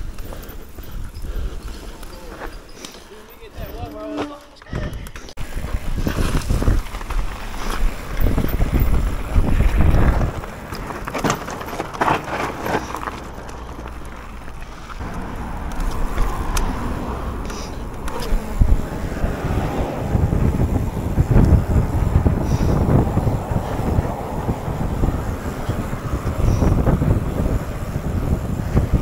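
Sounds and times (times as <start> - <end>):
wind rumbling on microphone: 0.0 - 2.5, 4.7 - 29.0
bike chain and frame rattling: 0.0 - 4.2, 5.1 - 29.0
bike tyres rolling over gravel: 0.0 - 4.4, 5.4 - 29.0.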